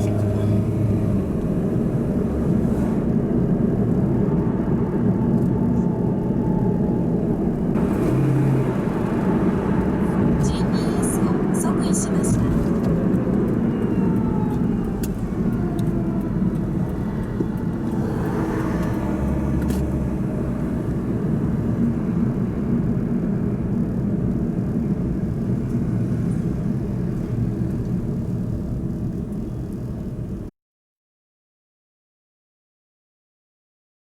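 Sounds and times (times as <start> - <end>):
car engine and road noise: 0.0 - 30.5.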